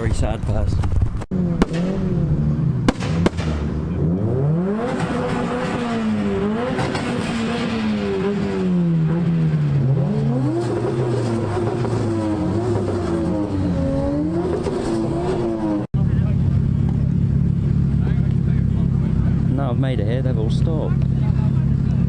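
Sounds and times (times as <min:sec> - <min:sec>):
car engine revving: 0:00.0 - 0:22.0
exhaust cracks: 0:00.0 - 0:22.0.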